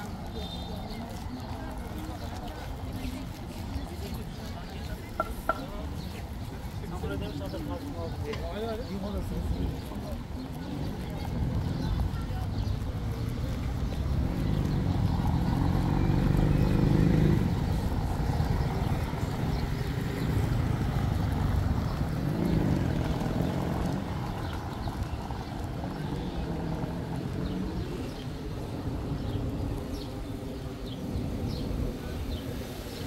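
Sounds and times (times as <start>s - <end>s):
motor vehicles passing: 0.0s - 33.0s
steady low traffic rumble: 0.0s - 33.0s.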